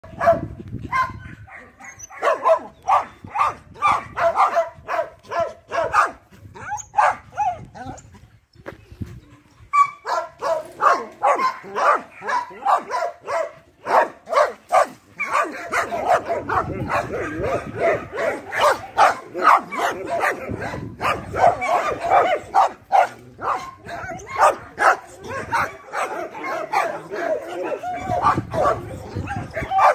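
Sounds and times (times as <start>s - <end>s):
dog barking and yipping: 0.0s - 8.0s, 9.7s - 29.9s.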